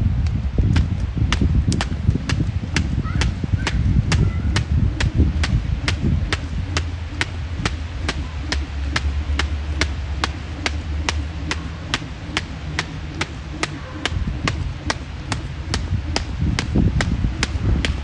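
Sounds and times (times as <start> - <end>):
wind rumbling on microphone: 0.0 - 18.0
jump rope slapping the ground: 0.2 - 18.0.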